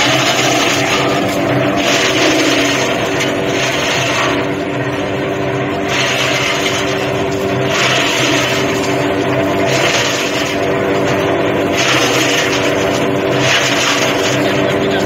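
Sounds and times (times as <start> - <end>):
rushing shredding noise: 0.0 - 15.0
tractor engine running: 0.0 - 15.0.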